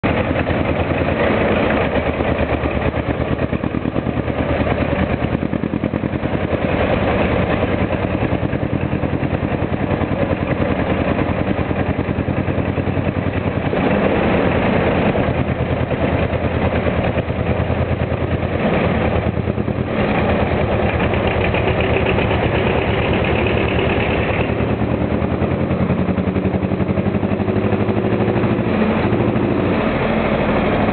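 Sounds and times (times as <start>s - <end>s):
diesel tractor engines under load: 0.0s - 30.9s.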